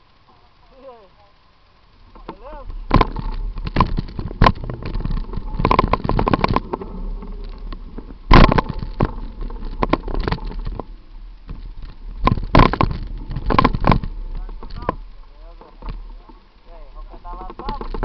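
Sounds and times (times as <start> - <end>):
bicycle rattling and clattering: 1.9 - 18.0.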